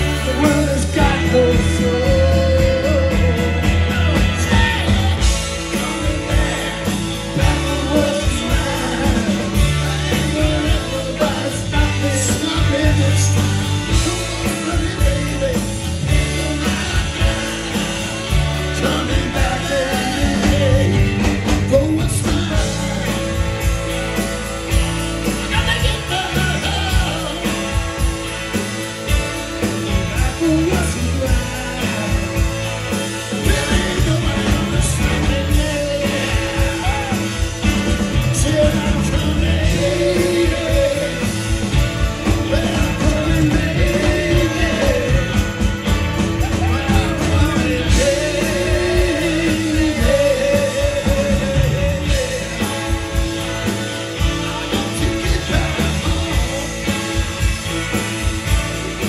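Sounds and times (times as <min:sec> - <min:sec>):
men singing lead vocals: 0:00.0 - 0:24.2, 0:25.4 - 0:27.9, 0:29.6 - 0:58.4
rock and soul band playing: 0:00.0 - 0:59.0.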